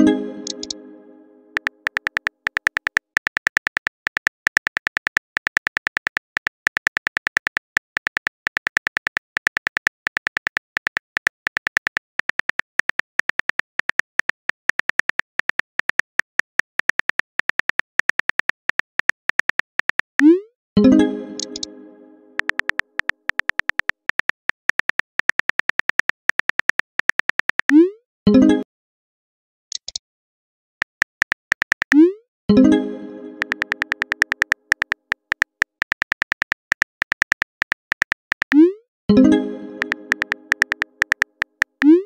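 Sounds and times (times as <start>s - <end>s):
phone keyboard typing clicks: 0.4s - 0.8s, 1.5s - 20.2s, 21.3s - 21.7s, 22.4s - 27.7s, 30.8s - 32.1s, 33.3s - 42.0s.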